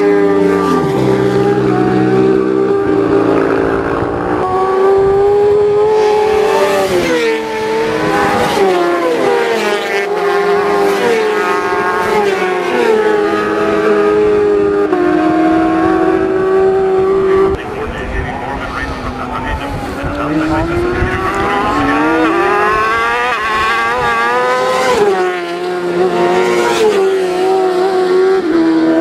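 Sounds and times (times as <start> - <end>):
racing motorcycles passing: 0.0 - 29.0.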